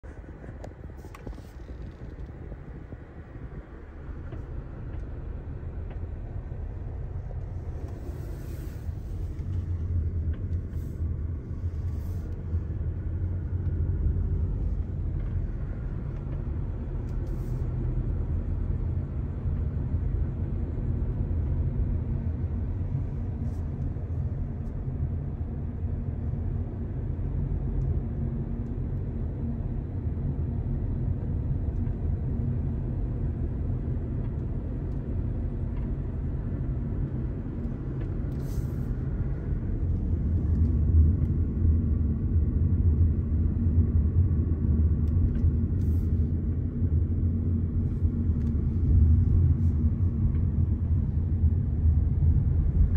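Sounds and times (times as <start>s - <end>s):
road and engine noise inside car: 0.0s - 52.9s.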